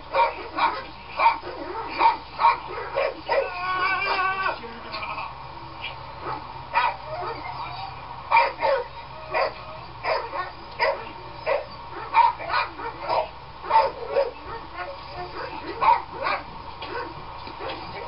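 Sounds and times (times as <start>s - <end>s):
dog yipping and barking: 0.1s - 4.6s, 6.2s - 18.0s.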